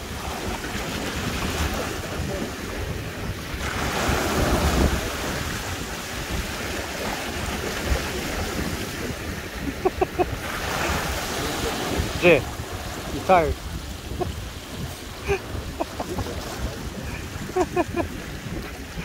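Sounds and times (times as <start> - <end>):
sea waves washing over rocks: 0.0 - 19.0
wind buffeting microphone: 0.0 - 19.0.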